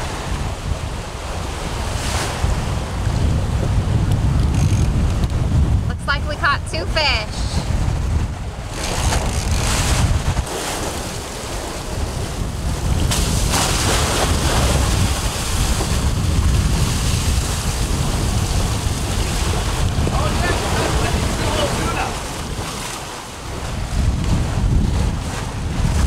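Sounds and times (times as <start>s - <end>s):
waves rushing along a hull: 0.0s - 26.0s
wind buffeting the microphone: 0.0s - 26.0s.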